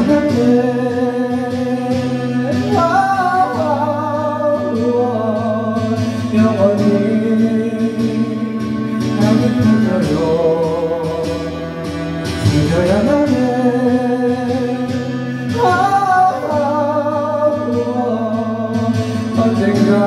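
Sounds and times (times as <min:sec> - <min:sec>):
karaoke ballad backing track: 0:00.0 - 0:20.0.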